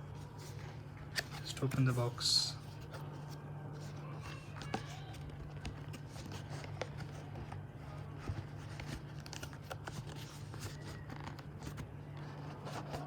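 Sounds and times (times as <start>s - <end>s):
steady low hum: 0.0s - 13.0s
packaging being handled: 0.2s - 13.0s.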